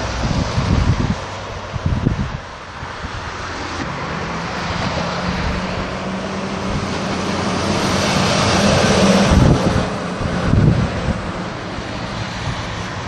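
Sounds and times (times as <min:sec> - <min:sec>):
vehicle engine approaching: 0:00.0 - 0:13.0.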